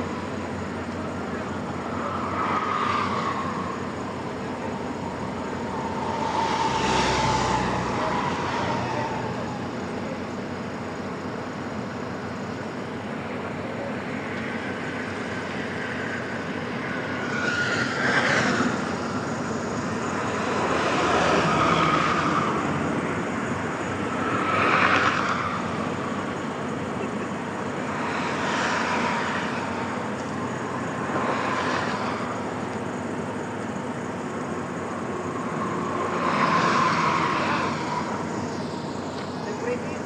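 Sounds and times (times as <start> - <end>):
steady traffic background noise: 0.0 - 40.0
vehicles passing with whine: 0.0 - 40.0.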